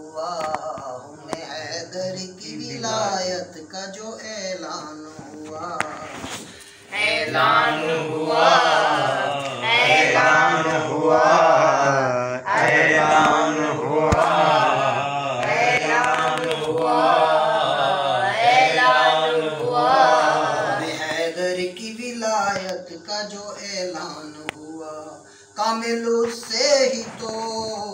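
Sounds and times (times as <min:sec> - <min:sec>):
man chanting devotional verse: 0:00.0 - 0:27.9.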